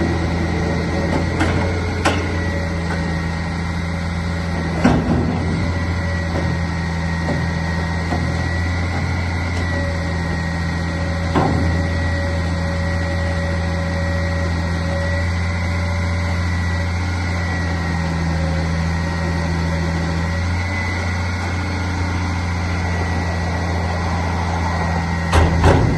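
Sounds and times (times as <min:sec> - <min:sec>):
truck engine idling: 0:00.0 - 0:25.9.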